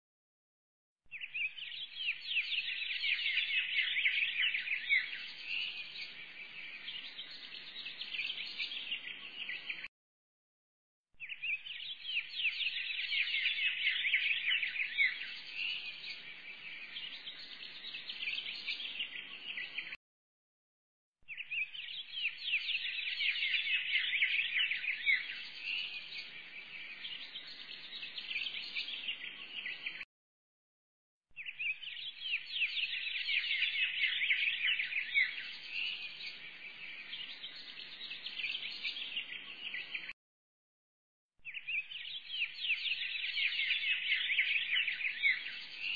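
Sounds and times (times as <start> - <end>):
birds chirping: 1.1 - 9.9, 11.2 - 20.0, 21.3 - 30.0, 31.4 - 40.1, 41.4 - 45.9.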